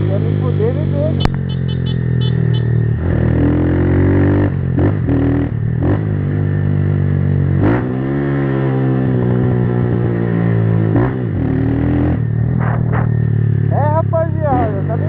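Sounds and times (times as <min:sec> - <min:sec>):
motorcycle engine accelerating: 0:00.0 - 0:15.0
road noise: 0:00.0 - 0:15.0.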